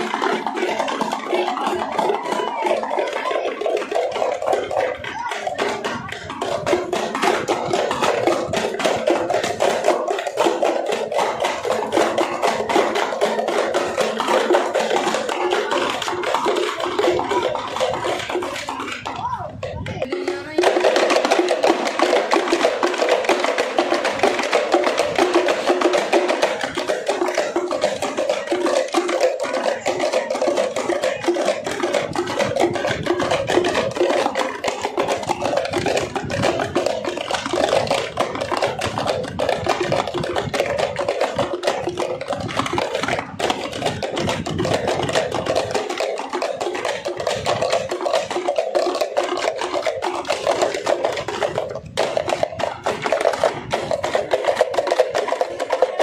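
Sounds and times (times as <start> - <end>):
frame drums beaten with sticks: 0.0 - 56.0.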